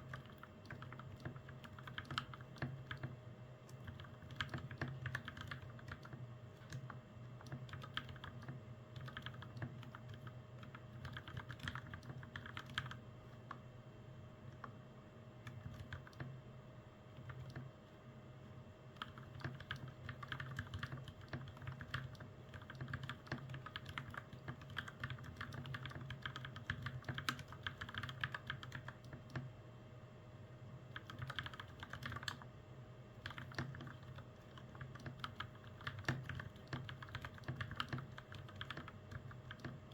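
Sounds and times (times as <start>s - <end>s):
mechanical keyboard typing: 0.0s - 13.0s, 15.4s - 16.3s, 17.2s - 17.6s, 19.0s - 29.5s, 30.9s - 32.5s, 33.2s - 39.9s.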